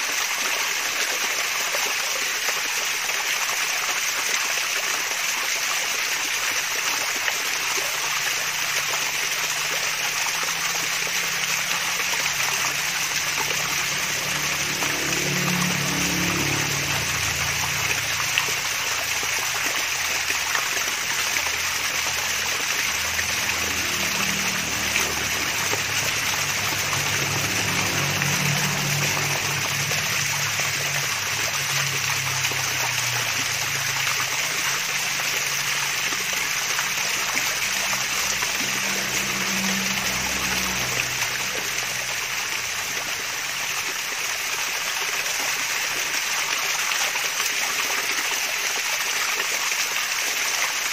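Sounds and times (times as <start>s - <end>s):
water trickling down waterfall: 0.0s - 50.9s.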